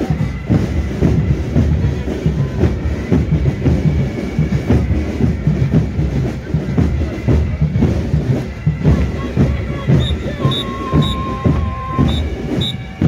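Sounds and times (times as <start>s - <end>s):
military band music: 0.0s - 13.0s.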